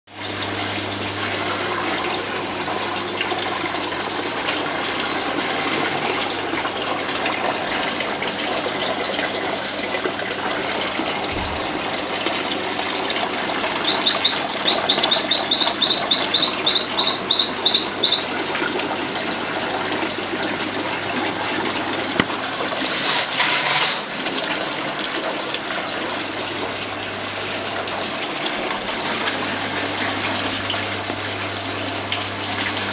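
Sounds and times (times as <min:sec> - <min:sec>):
water pouring from a pipe: 0:00.1 - 0:32.9.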